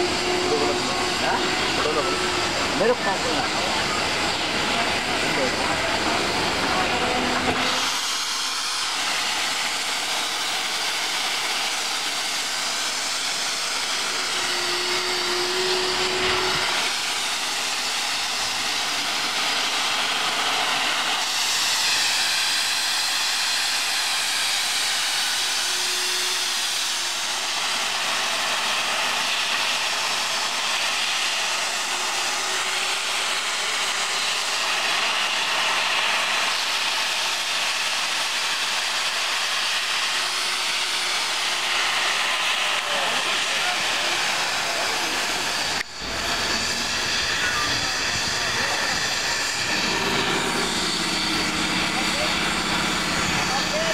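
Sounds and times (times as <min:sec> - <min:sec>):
steam hissing from locomotive: 0:00.0 - 0:53.9.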